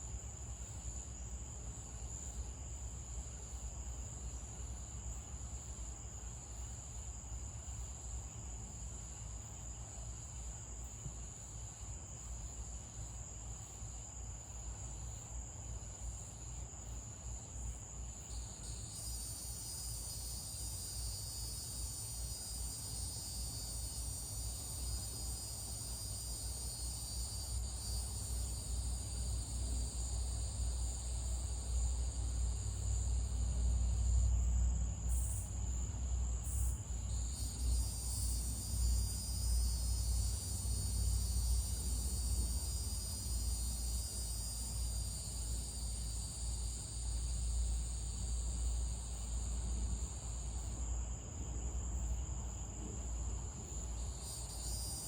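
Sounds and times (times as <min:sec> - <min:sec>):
night insects chirring: 0:00.0 - 0:55.0.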